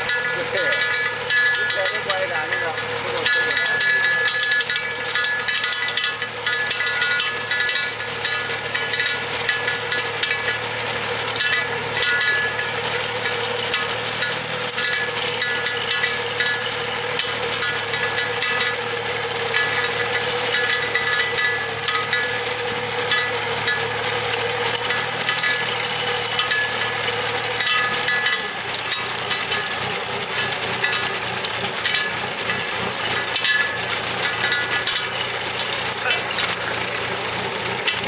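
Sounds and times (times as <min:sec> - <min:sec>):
rattling clatter of conveyor: 0:00.0 - 0:38.0
tractor engine running: 0:00.0 - 0:38.0.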